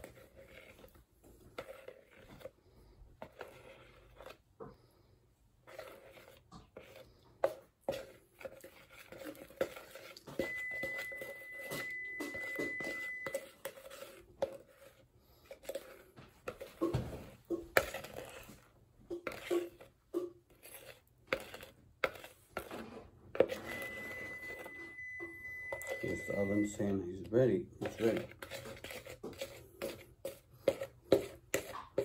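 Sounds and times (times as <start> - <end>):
spatula scraping mixing bowl: 0.0 - 32.0.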